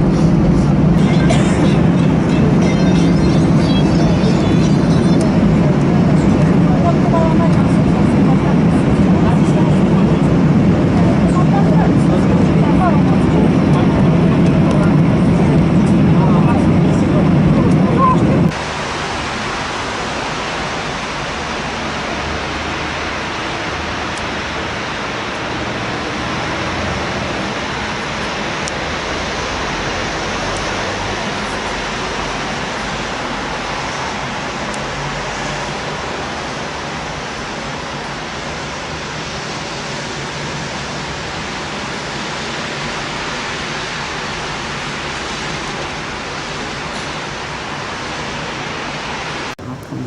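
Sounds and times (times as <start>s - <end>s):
airliner cabin airflow: 0.0s - 50.0s
jet engine noise: 0.0s - 50.0s.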